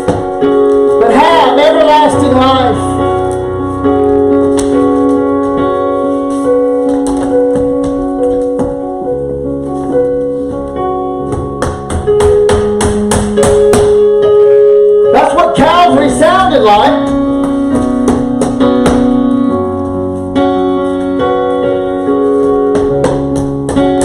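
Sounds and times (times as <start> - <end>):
keyboard chords and melody: 0.0 - 24.0.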